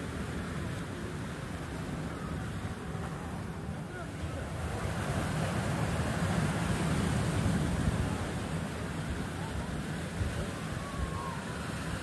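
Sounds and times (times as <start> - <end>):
sea waves breaking on beach: 0.0 - 12.0
wind rumbling on microphone: 0.0 - 12.0.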